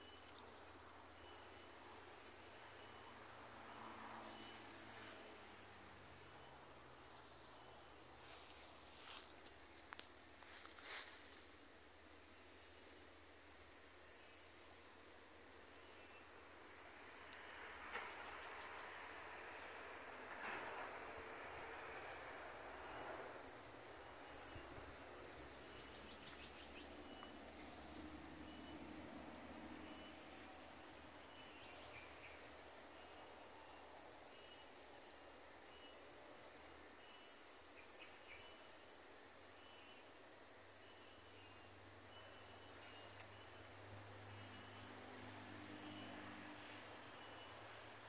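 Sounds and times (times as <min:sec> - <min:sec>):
short insect chirps: 0:00.0 - 0:13.3, 0:13.9 - 0:36.1, 0:36.9 - 0:48.0
insects buzzing drone: 0:00.0 - 0:48.0.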